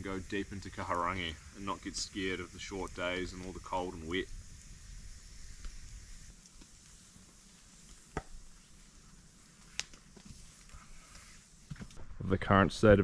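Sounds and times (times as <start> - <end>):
campfire crackling: 0.0 - 13.0
fire popping sharply: 0.0 - 13.0.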